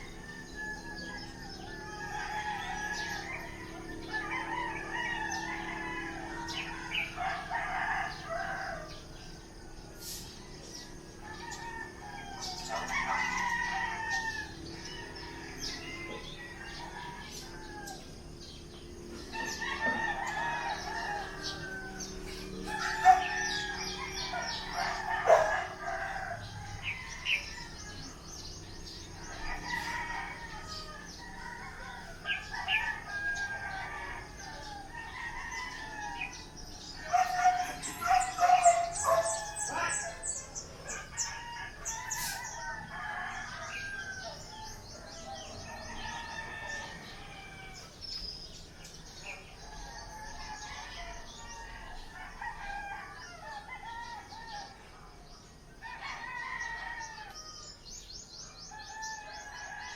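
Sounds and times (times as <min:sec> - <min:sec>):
roosters crowing: 0:00.0 - 0:59.9.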